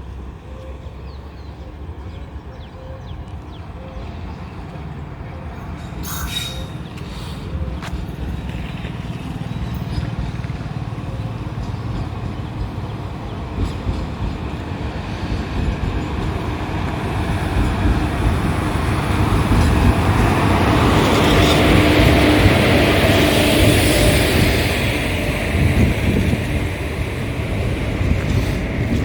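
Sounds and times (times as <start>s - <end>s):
passenger train rumbling: 0.0s - 29.0s.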